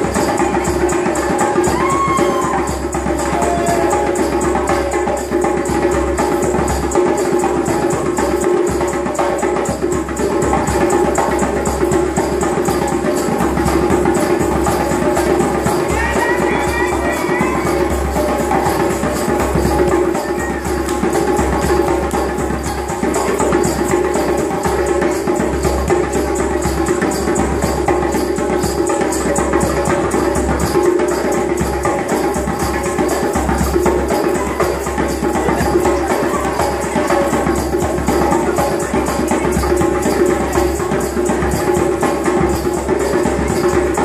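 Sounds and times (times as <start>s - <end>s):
hand drum beaten fast: 0.0s - 44.0s
other percussion: 0.0s - 44.0s.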